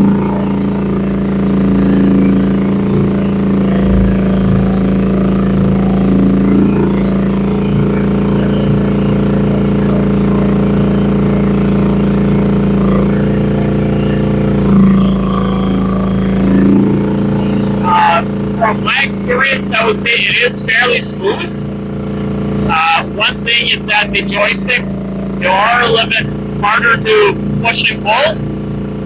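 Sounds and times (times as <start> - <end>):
excavator engine running: 0.0 - 29.0.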